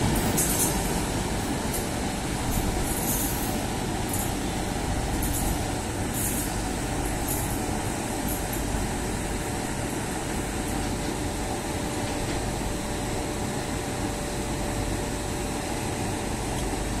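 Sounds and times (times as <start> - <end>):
trains humming and rushing: 0.0 - 17.0.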